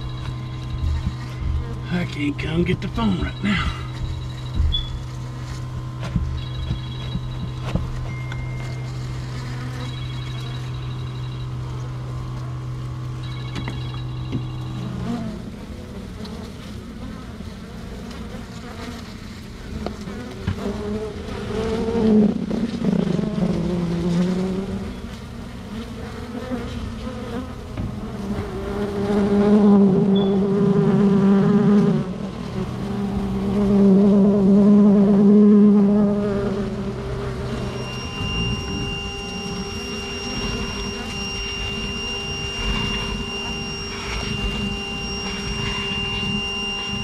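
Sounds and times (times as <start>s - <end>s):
bees buzzing: 0.0s - 47.0s
steady hum: 0.0s - 47.0s.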